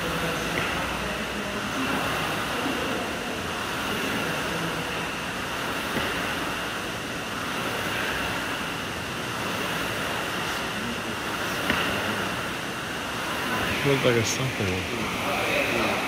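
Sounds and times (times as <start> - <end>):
rowing machine fan whooshing: 0.0 - 16.0.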